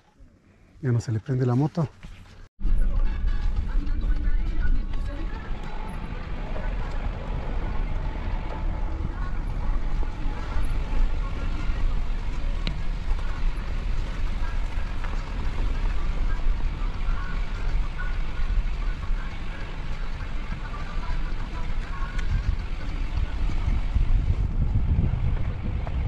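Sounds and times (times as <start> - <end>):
car driving on cobblestones: 2.0 - 26.0.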